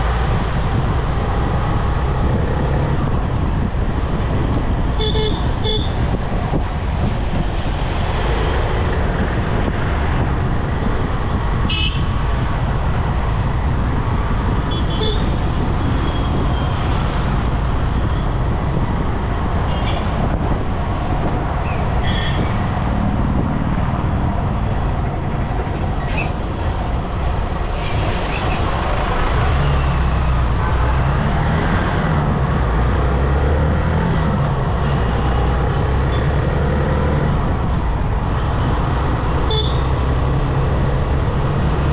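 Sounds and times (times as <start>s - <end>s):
engine and tyre noise: 0.0s - 41.9s
heavy vehicle engine rumble: 0.0s - 41.9s.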